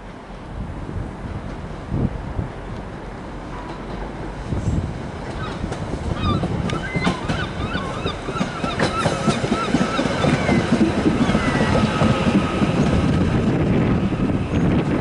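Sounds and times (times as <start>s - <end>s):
train wheels rumbling on rails: 0.1s - 15.0s.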